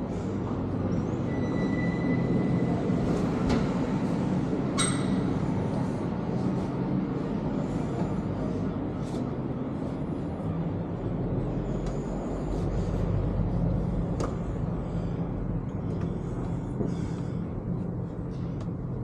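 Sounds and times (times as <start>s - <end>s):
street noise: 0.0s - 19.0s
vehicle engine humming: 2.4s - 19.0s.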